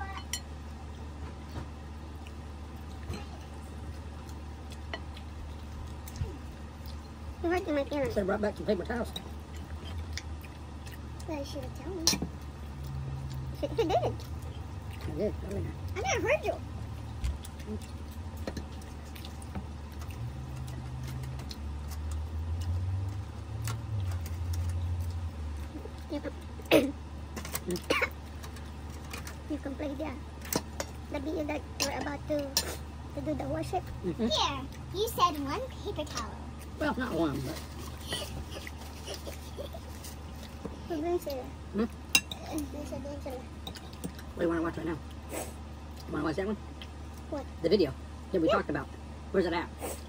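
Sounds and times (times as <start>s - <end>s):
room tone hum: 0.0s - 50.0s.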